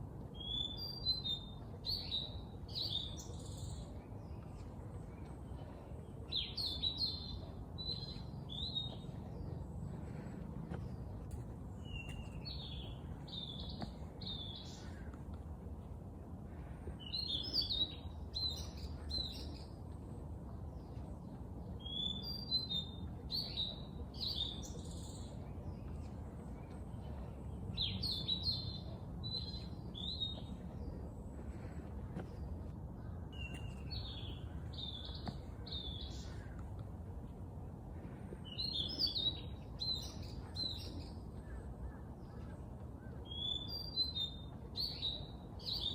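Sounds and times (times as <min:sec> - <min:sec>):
low background rumble: 0:00.0 - 0:43.2
songbird chirping: 0:00.0 - 0:45.9.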